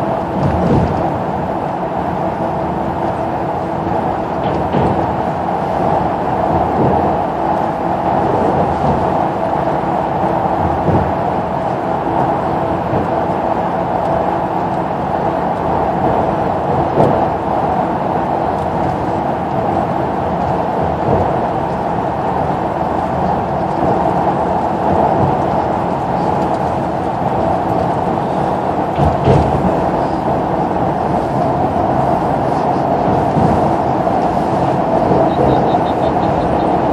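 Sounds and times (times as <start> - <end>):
bus engine and road noise: 0.0 - 36.9.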